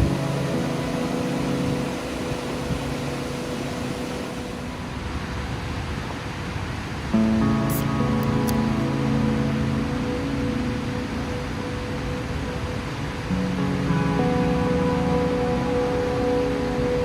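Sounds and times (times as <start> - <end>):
music: 0.0 - 4.6, 7.2 - 17.0
waterfall rushing: 0.0 - 17.0.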